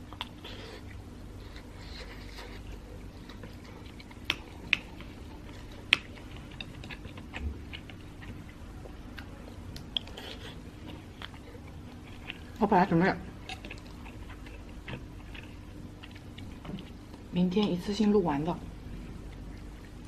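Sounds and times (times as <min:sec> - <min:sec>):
person chewing food: 0:00.0 - 0:17.3, 0:18.9 - 0:20.0.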